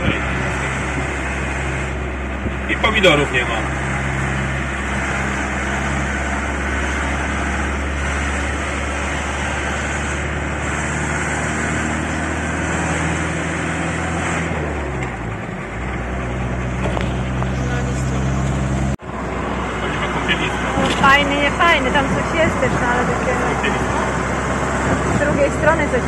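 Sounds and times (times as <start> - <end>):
motorhome engine running: 0.0 - 26.0
road noise: 0.0 - 26.0.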